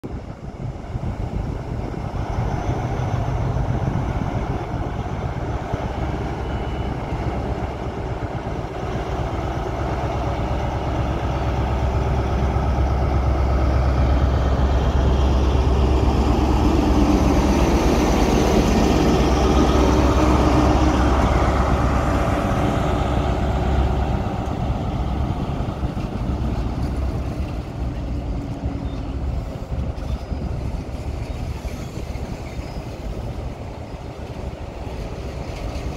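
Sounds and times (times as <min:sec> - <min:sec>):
diesel train engine passing: 0:00.0 - 0:35.9
train coaches rolling by: 0:00.0 - 0:35.9.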